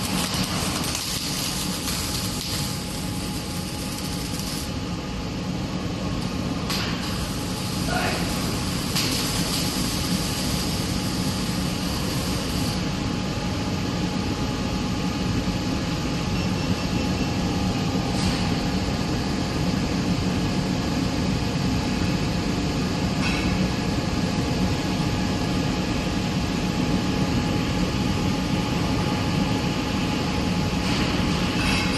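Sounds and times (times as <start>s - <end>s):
dense mechanical welding noise: 0.0s - 31.9s.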